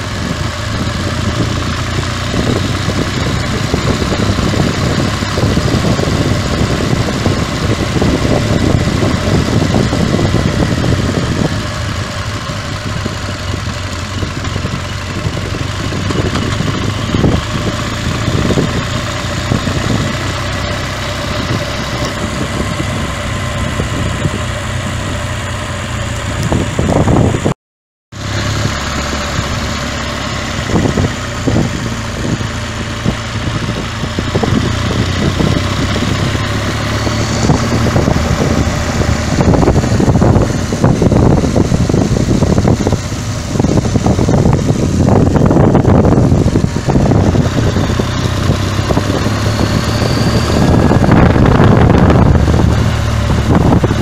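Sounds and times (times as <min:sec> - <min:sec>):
wind rush on microphone: 0:00.0 - 0:27.6, 0:28.2 - 0:54.0
motorcycle engine running: 0:00.0 - 0:54.0.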